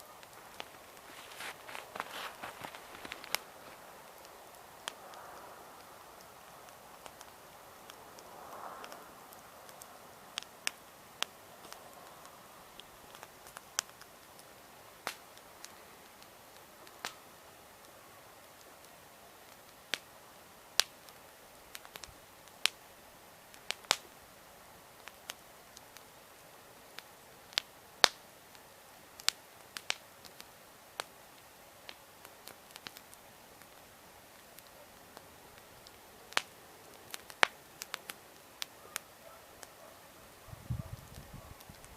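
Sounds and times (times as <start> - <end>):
campfire crackling: 0.0 - 41.9
faint steady hiss: 0.0 - 41.9.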